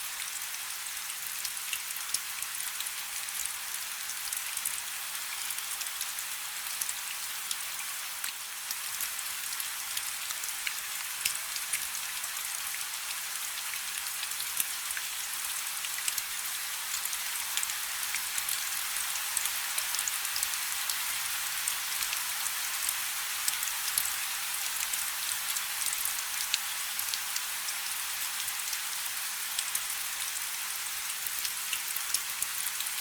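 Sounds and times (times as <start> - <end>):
rain falling on a river: 0.0 - 33.0.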